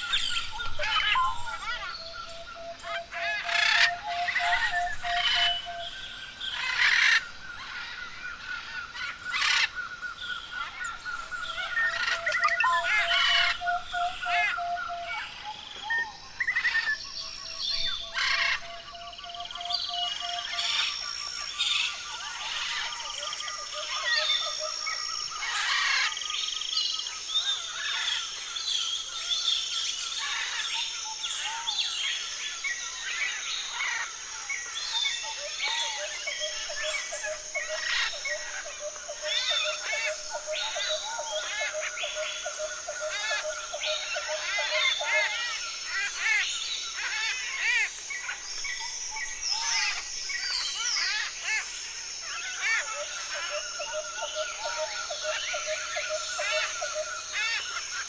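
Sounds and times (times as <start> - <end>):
forest birds calling: 0.0 - 58.0.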